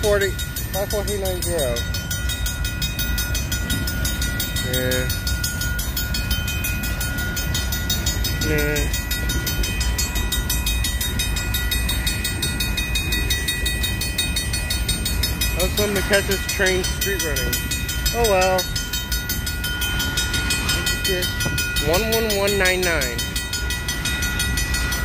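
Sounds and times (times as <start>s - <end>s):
crossing warning bell ringing: 0.0s - 25.0s
freight train rumbling past: 0.0s - 25.0s.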